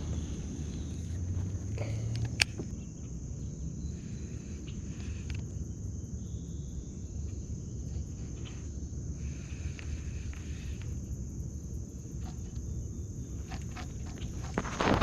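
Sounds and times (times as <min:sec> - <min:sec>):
insects droning: 0:00.0 - 0:15.0
low rumbling background: 0:00.0 - 0:15.0.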